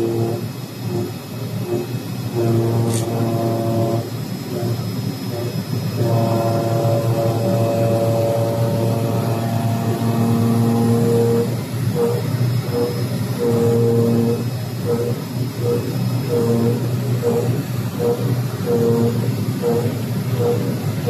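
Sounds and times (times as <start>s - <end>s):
machine low hum: 0.0s - 21.0s
motor whine: 0.0s - 21.0s.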